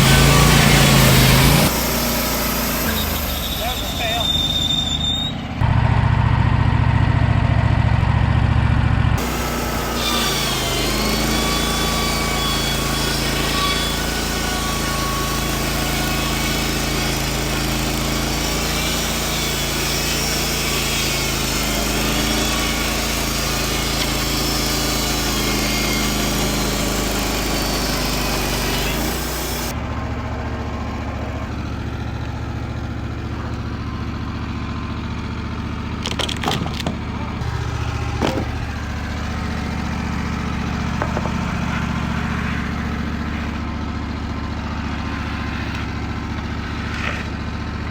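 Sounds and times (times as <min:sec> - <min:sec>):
band sawmill running: 0:00.0 - 0:47.9.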